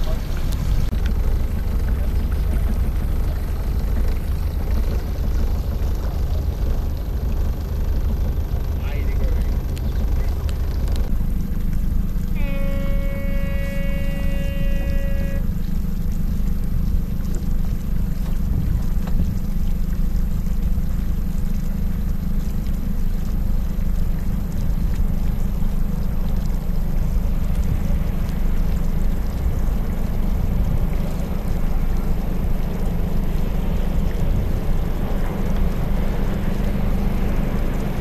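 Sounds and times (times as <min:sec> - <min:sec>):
motorboat engines: 0:00.0 - 0:38.0
wind rumble on microphone: 0:00.0 - 0:38.0.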